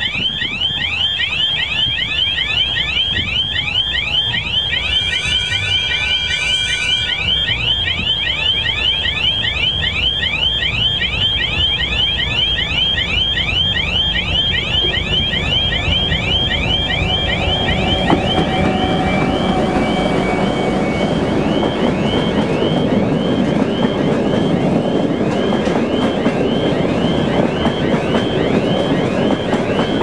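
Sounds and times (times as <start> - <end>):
diesel locomotive engine rumbling: 0.0 - 30.0
electronic warbling alarm: 0.0 - 30.0
high steady tone: 0.0 - 30.0.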